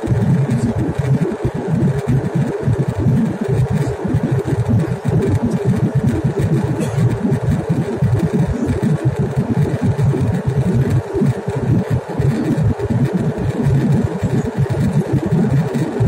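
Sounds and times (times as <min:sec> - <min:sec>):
airliner cabin roar: 0:00.0 - 0:16.0.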